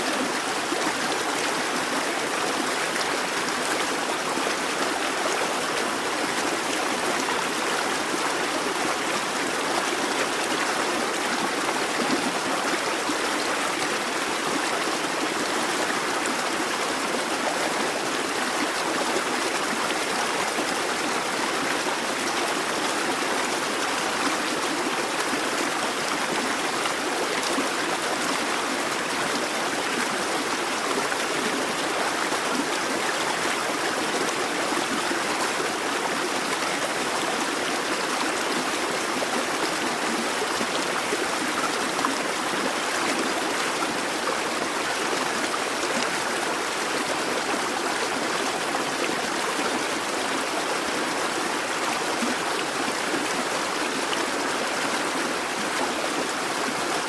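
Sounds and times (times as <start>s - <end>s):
brook water running over stones: 0.0s - 57.0s.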